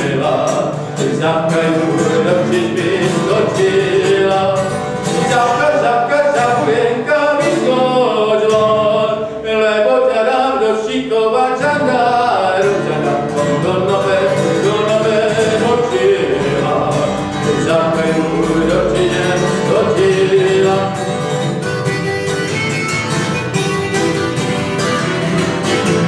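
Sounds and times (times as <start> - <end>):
acoustic guitar strumming: 0.0 - 26.0
man singing folk song: 0.0 - 26.0.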